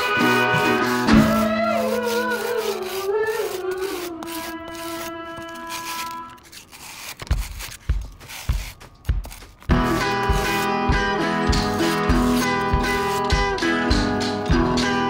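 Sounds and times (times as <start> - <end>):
blade scraping on wet sandpaper: 0.0 - 13.8.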